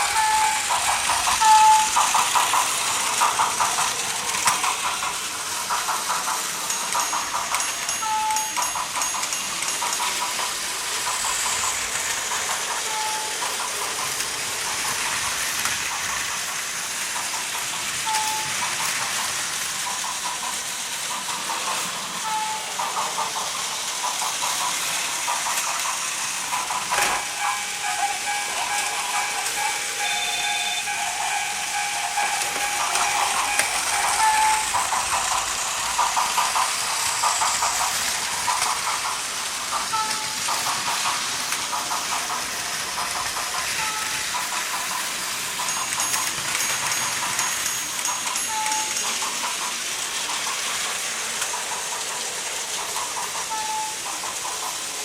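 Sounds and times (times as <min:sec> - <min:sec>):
toy trains whirring on track: 0:00.0 - 0:55.0.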